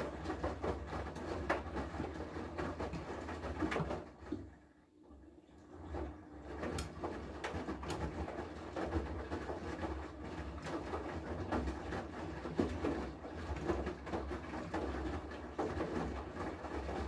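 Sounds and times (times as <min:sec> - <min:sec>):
washing machine clothes sloshing: 0:00.0 - 0:17.0.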